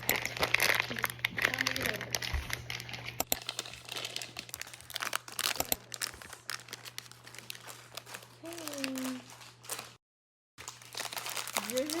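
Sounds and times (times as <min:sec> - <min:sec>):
plastic packets crinkling: 0:00.0 - 0:10.0, 0:10.6 - 0:12.0.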